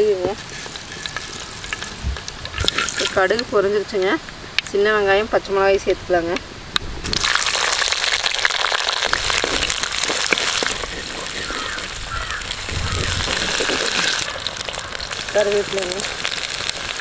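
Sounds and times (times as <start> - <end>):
crackling pops: 0.0 - 3.6, 6.7 - 17.0
shallots sizzling in hot oil: 0.0 - 4.0, 7.0 - 17.0.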